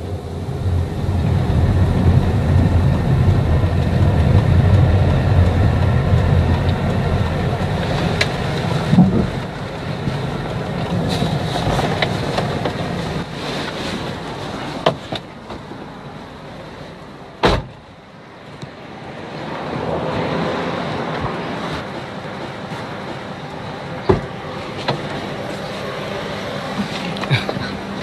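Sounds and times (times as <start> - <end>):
vehicle and street noise: 0.0 - 28.0.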